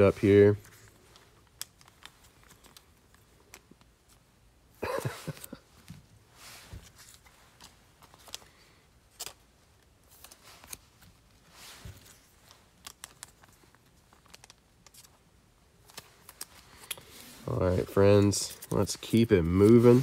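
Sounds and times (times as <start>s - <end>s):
cards clicking and rustling: 0.6s - 4.2s, 6.7s - 20.0s.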